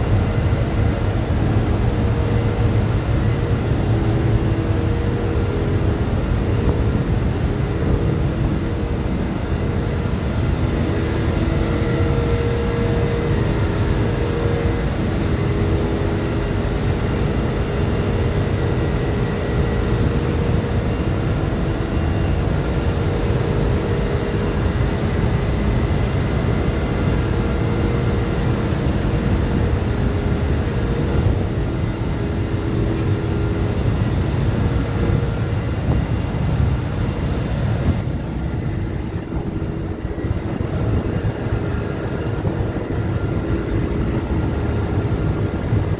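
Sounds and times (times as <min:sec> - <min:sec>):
engine room machinery rumble: 0:00.0 - 0:45.9.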